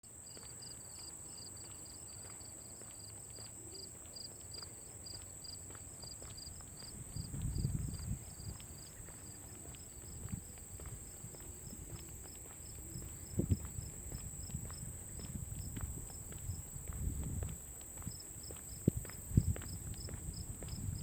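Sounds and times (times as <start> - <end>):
insect chorus droning and chirping: 0.2 - 21.0.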